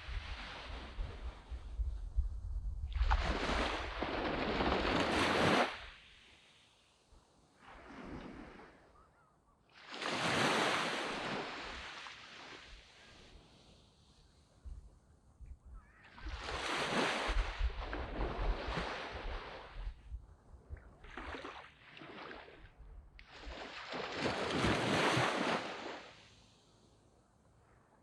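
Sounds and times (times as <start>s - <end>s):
waves breaking on a beach: 0.0s - 1.8s, 2.9s - 14.7s, 15.8s - 20.0s, 20.8s - 28.0s.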